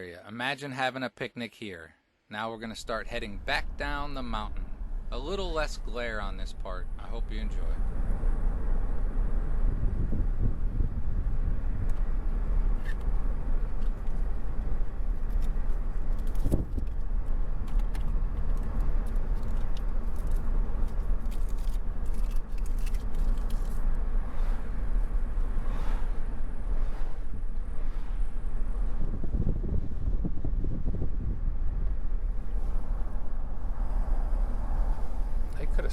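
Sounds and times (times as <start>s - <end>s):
car engine and tyre rumble: 2.6s - 35.9s.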